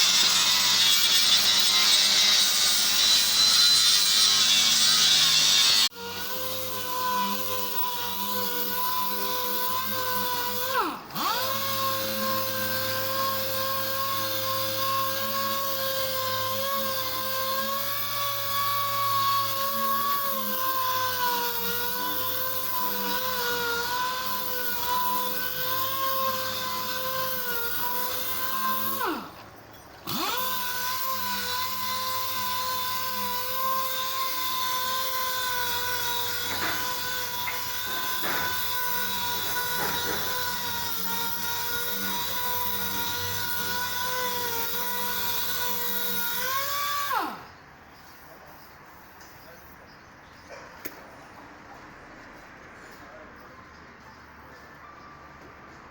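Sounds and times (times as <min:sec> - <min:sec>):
power tool whining: 0:00.0 - 0:47.6.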